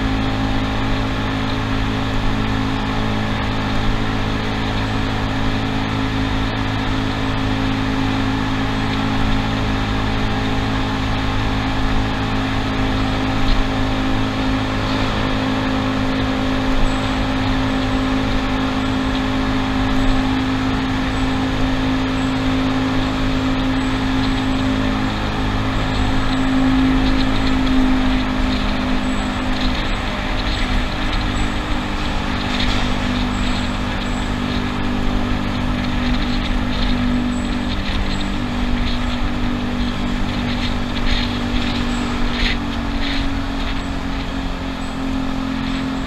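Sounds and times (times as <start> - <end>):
road and wind noise: 0.0 - 46.0
scooter engine cruising: 0.0 - 46.0.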